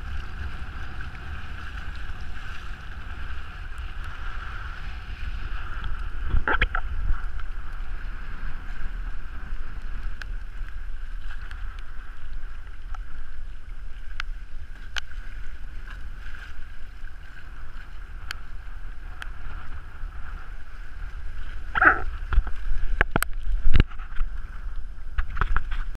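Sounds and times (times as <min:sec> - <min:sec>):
water rushing along a hull: 0:00.0 - 0:26.0
wind buffeting microphone: 0:00.0 - 0:26.0.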